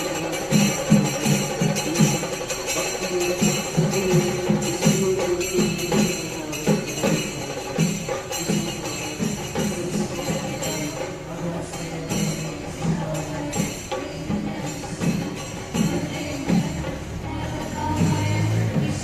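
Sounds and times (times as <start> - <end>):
jingling tambourine: 0.0 - 19.0
steady drum beat: 0.0 - 19.0.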